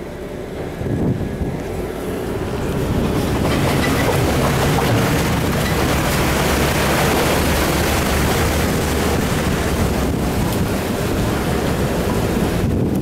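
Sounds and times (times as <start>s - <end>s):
bus engine running: 0.0s - 13.0s
wind: 0.0s - 13.0s
rushing water: 2.3s - 13.0s.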